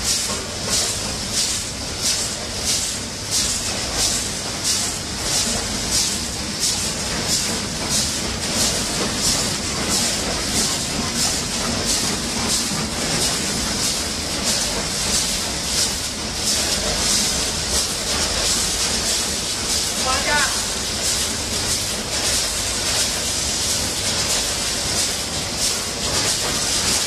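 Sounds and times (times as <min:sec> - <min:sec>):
machine hiss: 0:00.0 - 0:27.0
packaging machinery running: 0:00.0 - 0:27.0.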